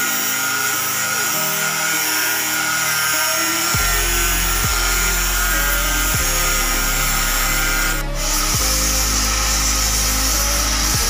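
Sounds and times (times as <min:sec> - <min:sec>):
background music with bass: 0:00.0 - 0:11.0
power grinder whining on metal: 0:00.0 - 0:11.0.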